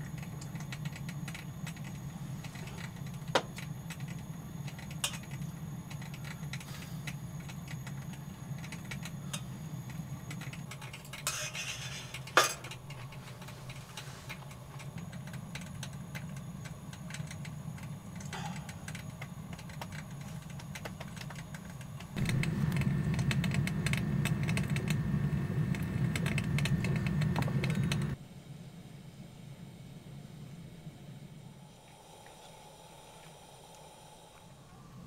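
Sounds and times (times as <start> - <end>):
steady high whine: 0.0 - 35.0
steady low hum: 0.0 - 35.0.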